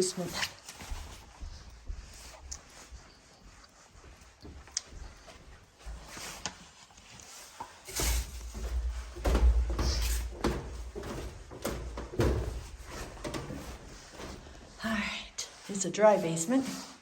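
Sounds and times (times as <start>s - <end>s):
heavy footsteps on stairs: 0.8s - 6.2s, 7.9s - 16.3s.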